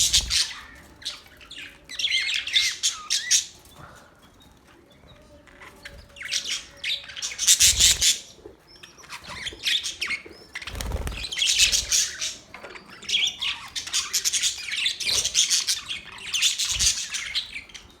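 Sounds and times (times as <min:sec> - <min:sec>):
budgerigars chirping and chattering: 0:00.0 - 0:18.0.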